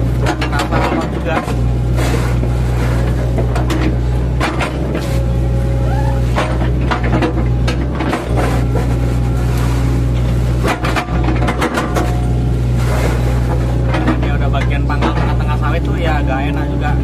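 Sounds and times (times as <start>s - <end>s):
diesel engine running under load: 0.0s - 17.0s
hydraulic whine: 0.0s - 17.0s.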